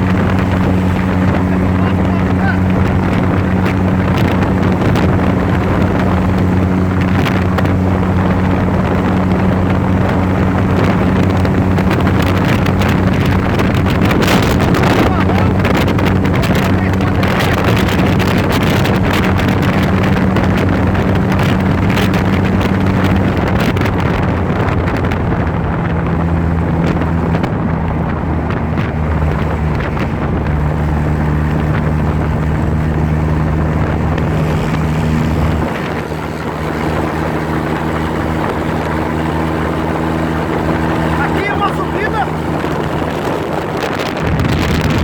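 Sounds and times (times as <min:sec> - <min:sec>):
trike engine running: 0:00.0 - 0:45.0
wind noise on microphone: 0:00.0 - 0:45.0.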